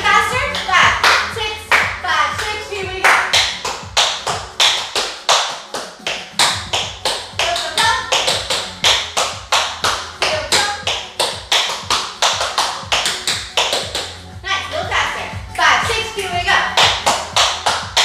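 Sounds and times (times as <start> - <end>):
tap shoes on wooden floor: 0.4 - 14.1, 15.9 - 18.0.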